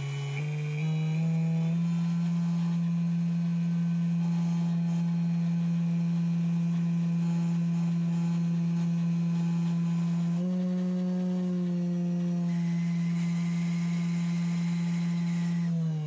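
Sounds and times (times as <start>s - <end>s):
router spinning with steady hum: 0.0s - 16.0s.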